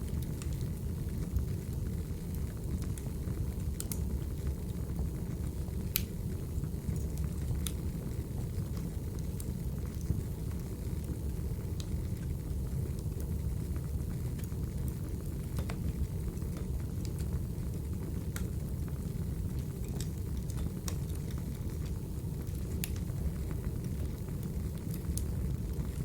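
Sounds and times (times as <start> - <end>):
fire pops and snaps: 0.0 - 26.0
wood fire crackling: 0.0 - 26.0.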